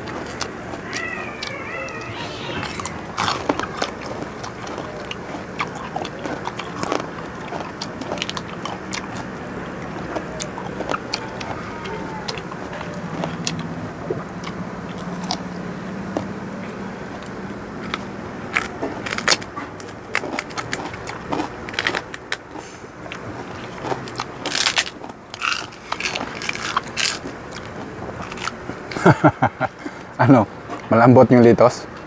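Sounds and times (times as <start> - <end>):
crunchy chewing: 0.0 - 30.9
low background hum: 0.0 - 32.0.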